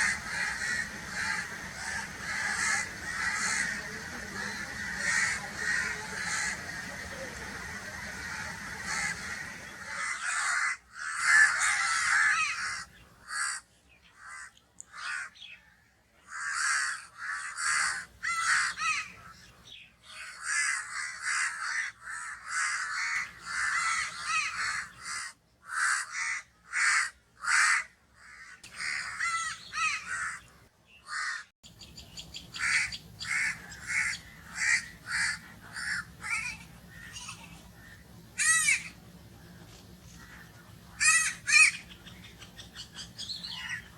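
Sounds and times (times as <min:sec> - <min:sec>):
crows cawing: 0:00.0 - 0:31.5, 0:32.5 - 0:39.2, 0:39.8 - 0:43.9.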